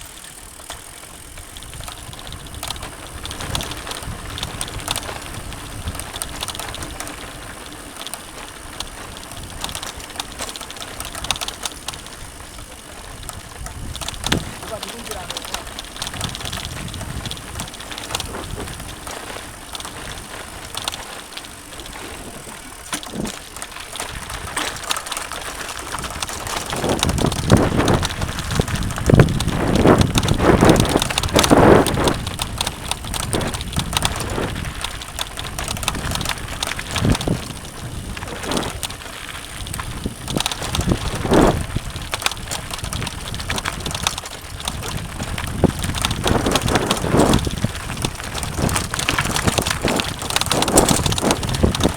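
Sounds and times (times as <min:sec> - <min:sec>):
bike rattling: 0:00.0 - 0:51.9
bike tyres rolling on dirt: 0:00.0 - 0:51.9.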